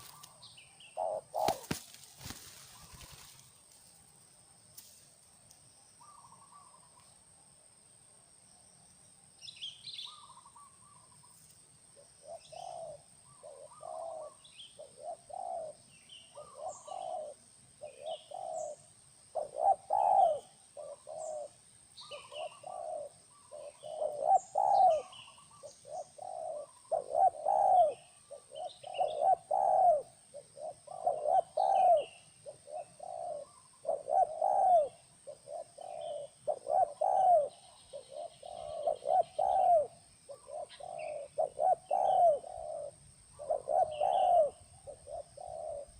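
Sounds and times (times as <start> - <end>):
doves cooing: 0.0 - 3.5, 12.2 - 45.9
small birds chirping: 0.0 - 4.0, 4.8 - 7.2, 8.6 - 45.9.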